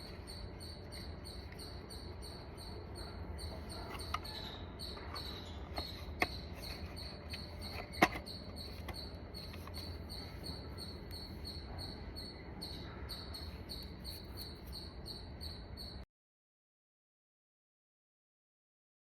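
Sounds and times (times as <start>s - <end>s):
insect chirping: 0.0s - 16.0s
low steady hum: 0.0s - 16.0s.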